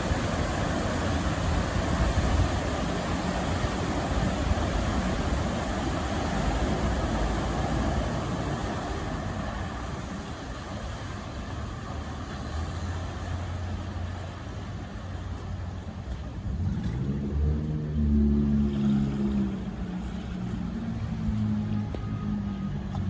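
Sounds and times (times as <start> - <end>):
vehicle driving through water: 0.0 - 23.0.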